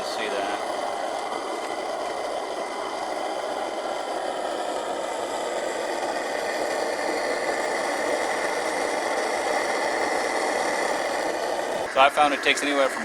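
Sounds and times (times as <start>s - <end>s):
camping stove rushing hiss: 0.0s - 13.0s
water boiling in pot: 0.0s - 13.0s.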